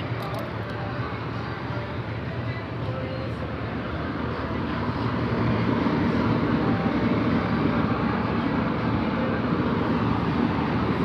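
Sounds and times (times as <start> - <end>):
low whooshing hum: 0.0 - 11.0.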